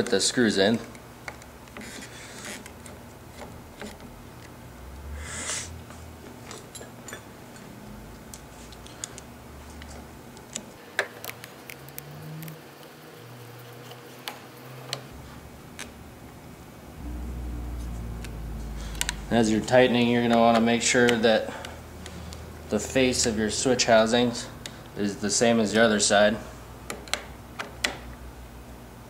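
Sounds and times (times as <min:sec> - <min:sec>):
low steady hum: 0:00.0 - 0:14.0, 0:14.6 - 0:29.0.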